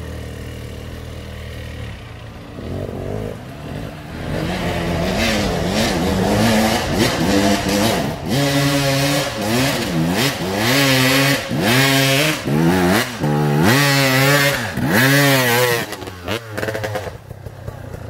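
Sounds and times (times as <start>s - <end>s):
dirt bike engine revving: 2.4s - 17.3s.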